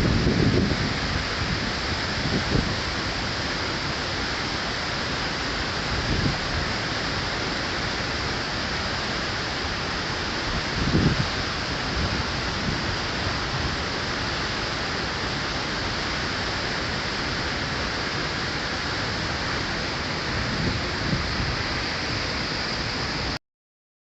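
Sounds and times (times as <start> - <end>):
waterfall rushing: 0.0 - 23.4.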